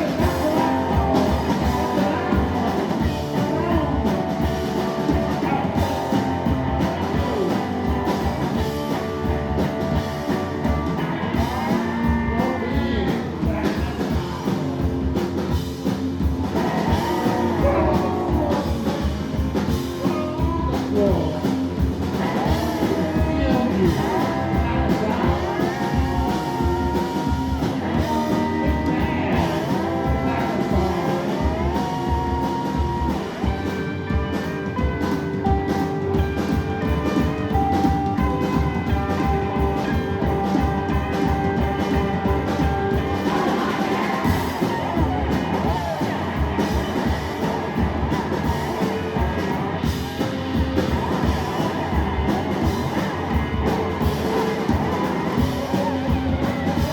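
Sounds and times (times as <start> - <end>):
drum and bass beat: 0.0 - 56.9
electric guitar bending notes: 0.0 - 56.9.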